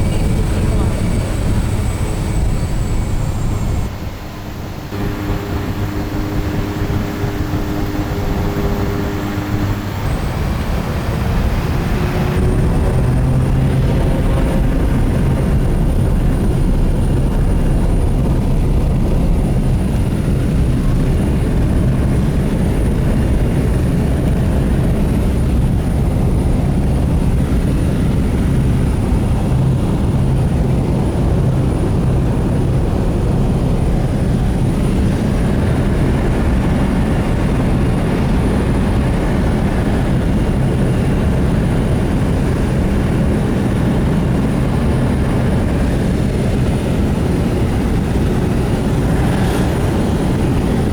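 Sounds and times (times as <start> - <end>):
propeller airplane engine drone: 0.0 - 50.9.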